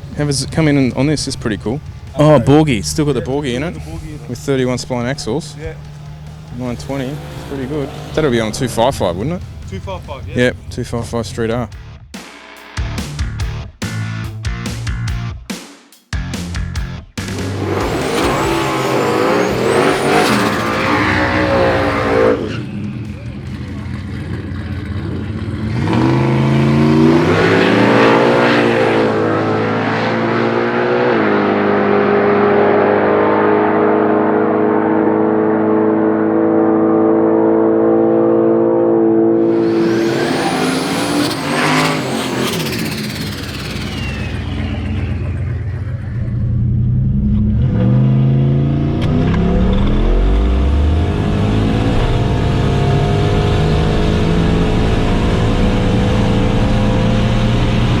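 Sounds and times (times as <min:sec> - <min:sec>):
car passing loudly: 0:00.0 - 0:11.7, 0:17.2 - 0:58.0
drag car accelerating hard: 0:00.0 - 0:11.7, 0:17.2 - 0:58.0.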